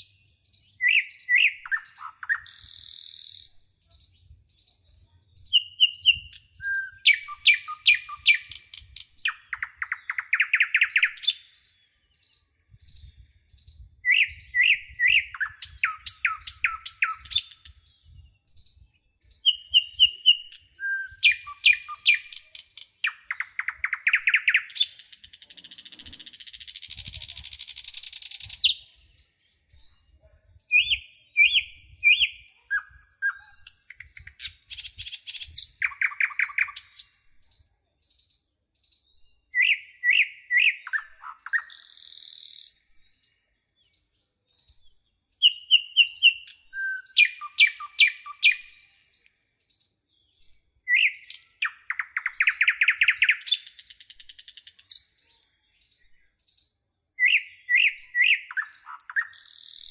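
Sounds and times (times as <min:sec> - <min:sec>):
songbird chirps and trills: 0:00.0 - 0:59.9.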